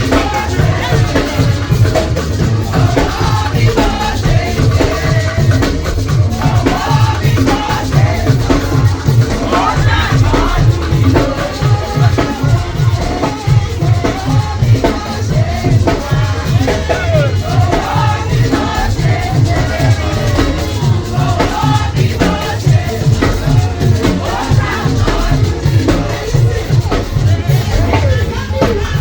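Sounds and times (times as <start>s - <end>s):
bass and drum beat: 0.0s - 29.0s
person singing: 0.0s - 29.0s.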